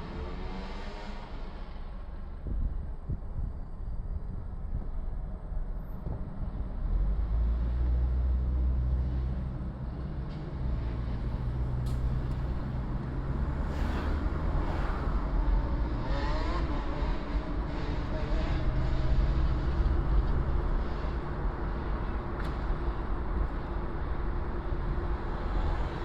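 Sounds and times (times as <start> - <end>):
passing vehicle noise: 0.0 - 2.9, 6.0 - 26.0
car engine and road rumble: 0.0 - 26.0.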